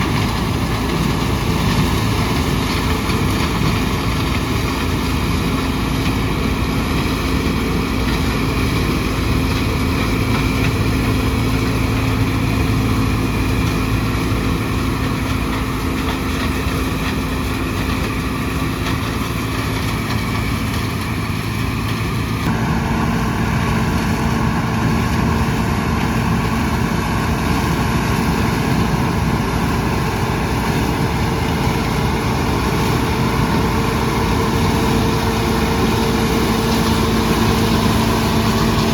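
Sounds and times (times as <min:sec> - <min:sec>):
combine engine running: 0:00.0 - 0:38.9.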